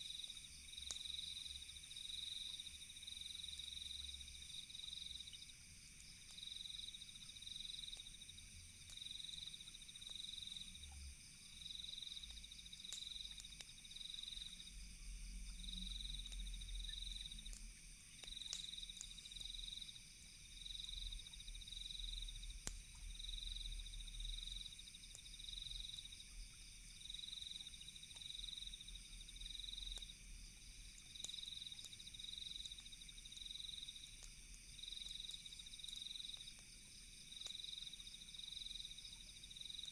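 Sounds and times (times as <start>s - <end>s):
campfire crackling: 0.0s - 39.9s
crickets trilling: 0.0s - 39.9s
pulsing insect chirp: 0.0s - 39.9s.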